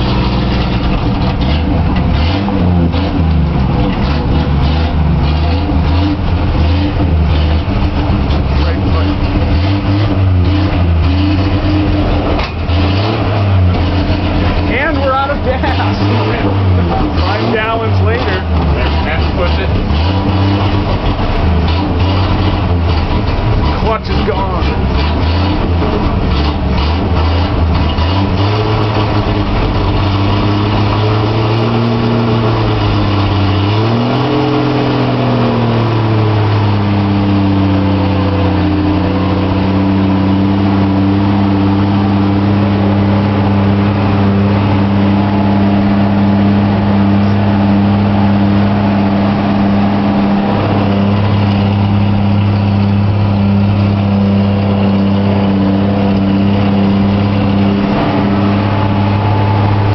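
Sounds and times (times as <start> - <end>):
van engine while driving: 0.0 - 59.9.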